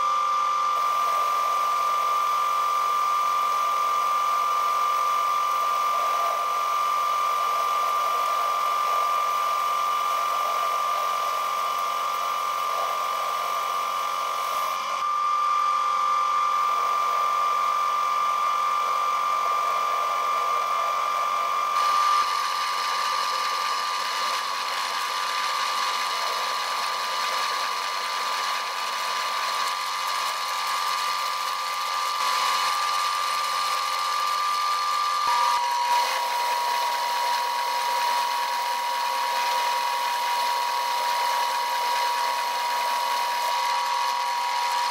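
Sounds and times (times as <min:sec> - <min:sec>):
cutting tool hissing on steel: 0:00.0 - 0:44.9
lathe whining: 0:00.0 - 0:44.9.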